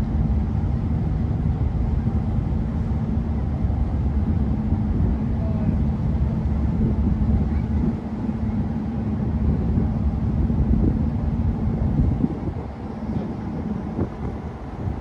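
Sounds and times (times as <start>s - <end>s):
ferry engine rumbling: 0.0s - 15.0s.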